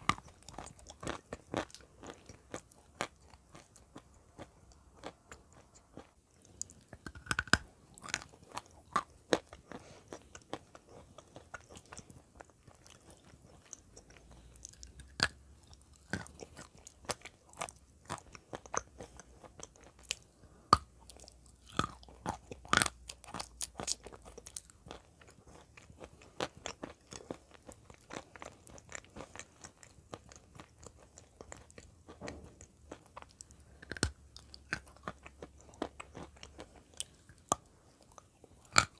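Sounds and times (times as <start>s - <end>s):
crunching and chewing clay: 0.0s - 38.9s.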